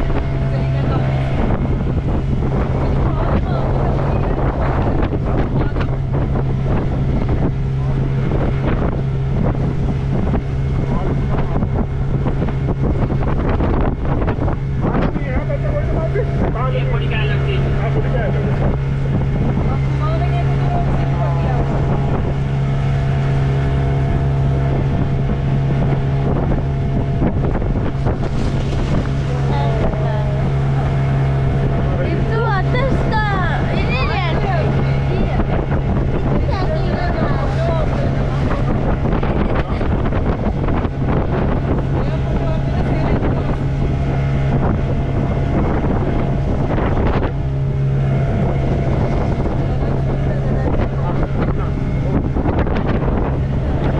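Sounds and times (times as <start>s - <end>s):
motorboat engine droning: 0.0s - 53.9s
water rushing past hull: 0.0s - 53.9s
wind buffeting microphone: 0.0s - 53.9s.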